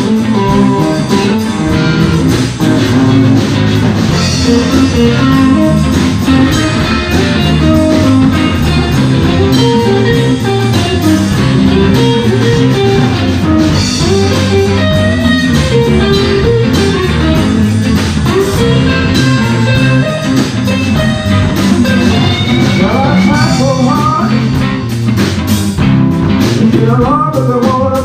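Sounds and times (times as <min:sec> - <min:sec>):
bass guitar: 0:00.0 - 0:28.0
drum kit: 0:00.0 - 0:28.0
lead electric guitar: 0:00.0 - 0:28.0.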